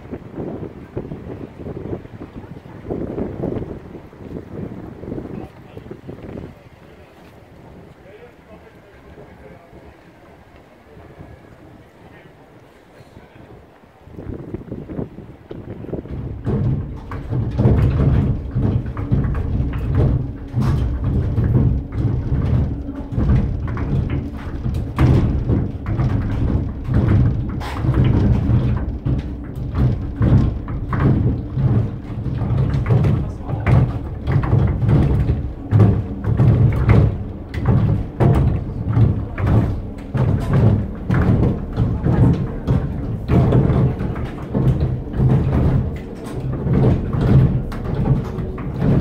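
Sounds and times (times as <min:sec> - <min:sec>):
wooden knocks and thuds: 0:00.0 - 0:08.7, 0:14.1 - 0:49.0
low rumble of turning gears: 0:00.0 - 0:49.0.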